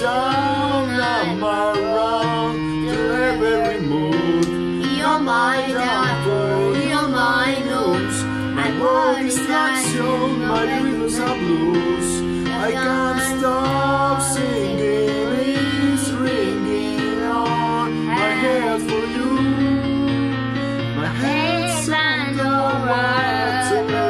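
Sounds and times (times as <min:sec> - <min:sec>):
girl and man singing duet: 0:00.0 - 0:24.0
recorded backing music: 0:00.0 - 0:24.0.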